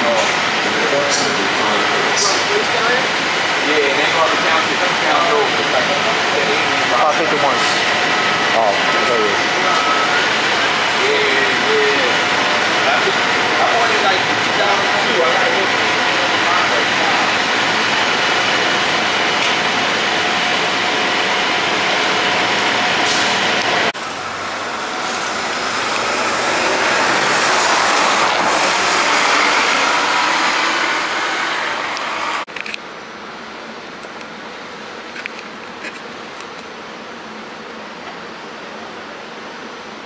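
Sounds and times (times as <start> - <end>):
bus and car passing: 0.0 - 32.5
bus engine running: 0.0 - 39.9
bus idling: 0.0 - 40.0
traffic: 0.0 - 40.0.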